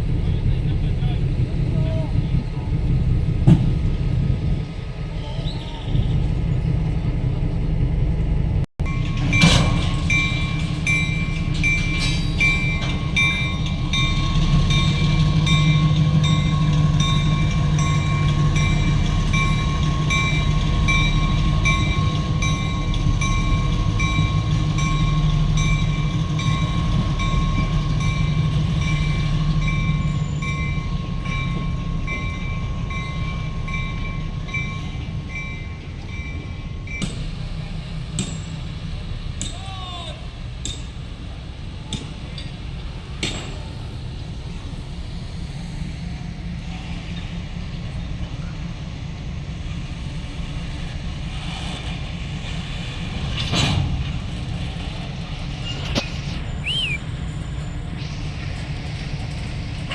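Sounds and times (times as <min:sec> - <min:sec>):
diesel locomotive rumble: 0:00.0 - 0:59.9.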